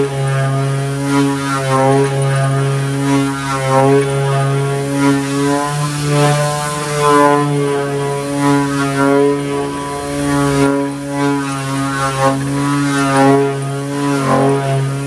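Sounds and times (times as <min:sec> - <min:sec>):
orbital sander running: 0:00.0 - 0:15.0.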